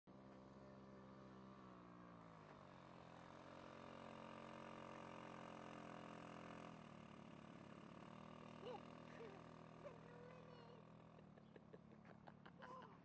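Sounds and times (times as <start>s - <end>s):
faint quad bike engine: 0.1s - 13.0s.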